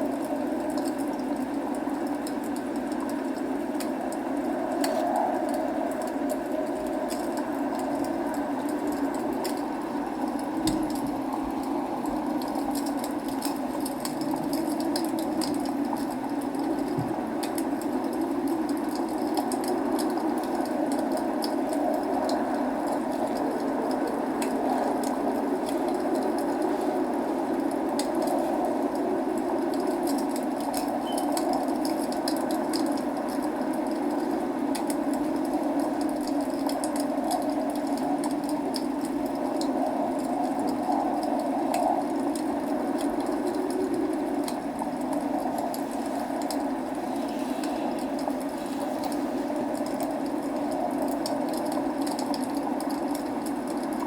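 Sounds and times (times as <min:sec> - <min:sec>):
log fire crackling: 0:00.0 - 0:54.0
rain rushing: 0:00.0 - 0:54.0.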